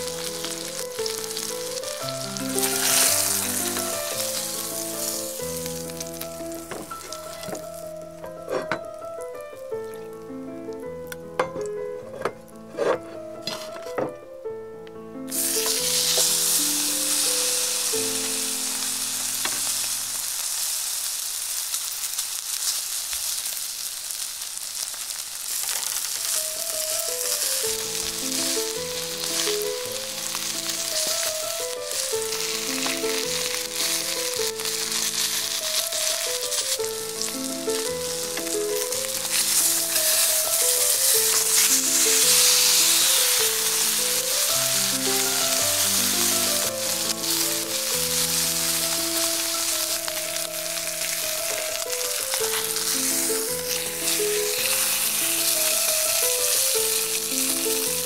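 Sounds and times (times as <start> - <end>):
steak sizzling in a skillet: 0.0 - 13.8, 15.3 - 58.0
soft background music: 0.0 - 20.4, 26.0 - 58.0.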